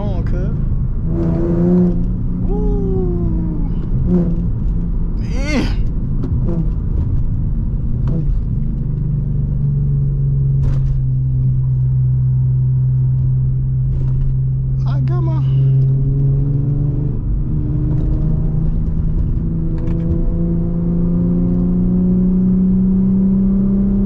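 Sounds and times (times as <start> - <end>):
car engine drone inside cabin: 0.0 - 24.0.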